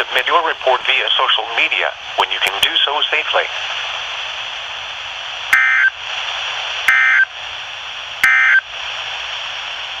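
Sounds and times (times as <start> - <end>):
radio hiss: 0.0 - 10.0.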